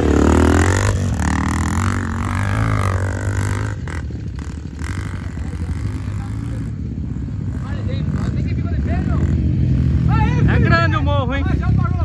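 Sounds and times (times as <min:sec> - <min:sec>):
dirt bike engine revving: 0:00.0 - 0:12.0
dirt bike engine running steadily: 0:00.0 - 0:12.0.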